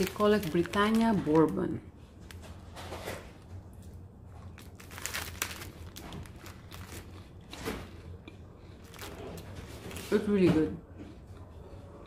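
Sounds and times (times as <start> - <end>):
plastic wrapper crinkling: 0.0 - 8.1, 8.7 - 10.3.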